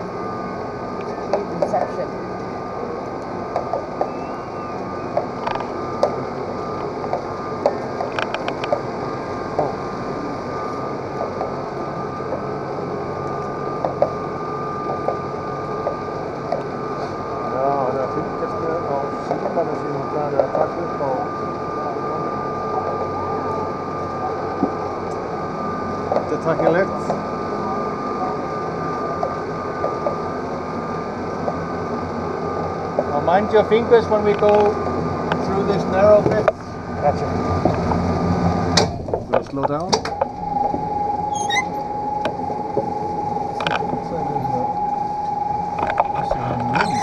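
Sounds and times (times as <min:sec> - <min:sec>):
cable lift mechanical hum: 0:00.0 - 0:47.0
constant high whine: 0:00.0 - 0:47.0.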